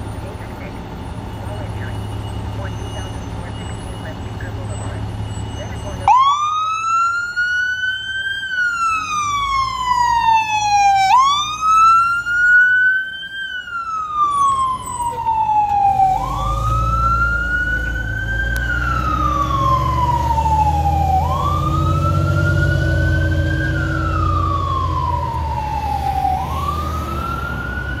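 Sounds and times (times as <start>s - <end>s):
diesel engine rumble: 0.0s - 28.0s
fire engine siren wailing: 0.0s - 28.0s.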